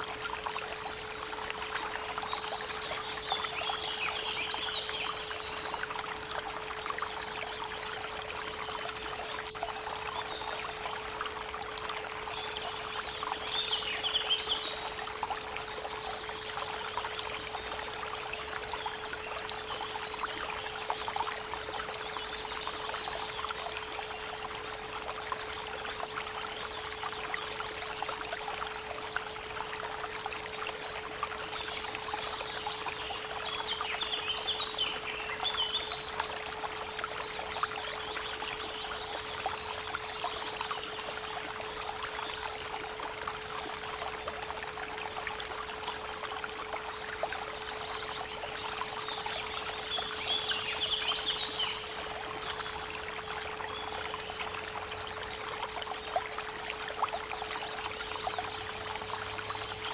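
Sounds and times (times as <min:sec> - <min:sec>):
birds singing: 0:00.0 - 0:11.1, 0:11.8 - 0:24.4, 0:25.4 - 0:43.6, 0:44.7 - 0:59.9
creek water trickling: 0:00.0 - 0:59.9.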